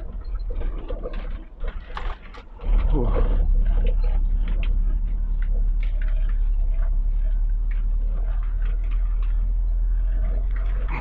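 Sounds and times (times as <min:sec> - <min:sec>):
rattles and knocks on gravel: 0:00.0 - 0:11.0
truck diesel engine droning: 0:00.0 - 0:11.0.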